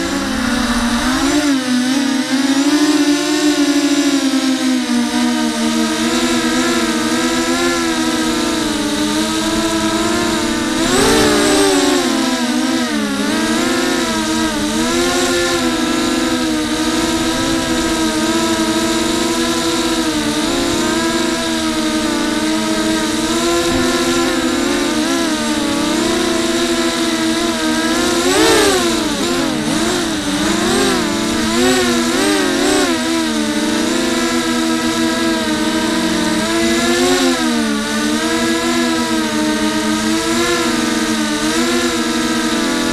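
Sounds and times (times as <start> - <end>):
drone motors and propellers whining: 0.0 - 42.9.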